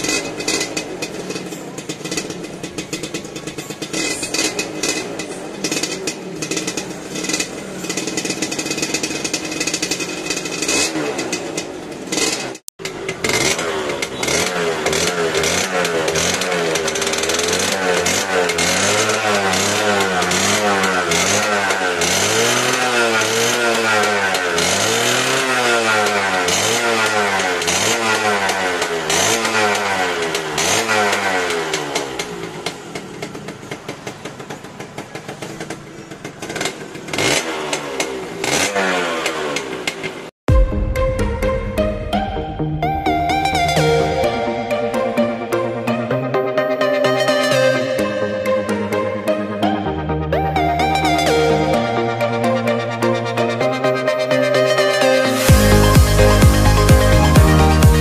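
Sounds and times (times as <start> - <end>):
two-stroke engine idling: 0.0 - 40.3, 43.3 - 58.0
motorcycle engine revving: 0.0 - 58.0.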